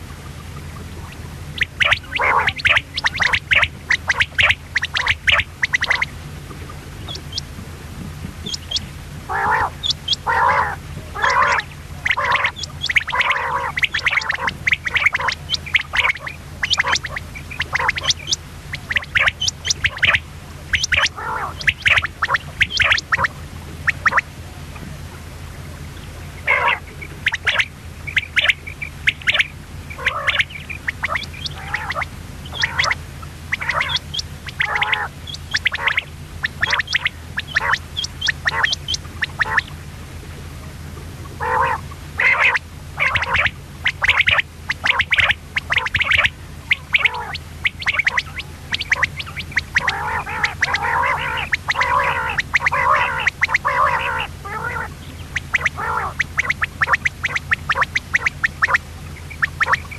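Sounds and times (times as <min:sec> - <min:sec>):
quail calling: 0:00.0 - 0:24.9, 0:25.6 - 0:39.8, 0:40.6 - 0:59.9
steady low hum: 0:00.0 - 0:59.9.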